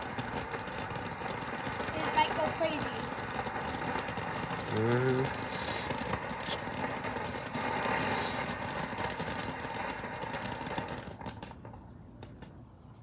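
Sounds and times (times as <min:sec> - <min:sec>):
ground firework hissing and crackling: 0:00.0 - 0:12.5.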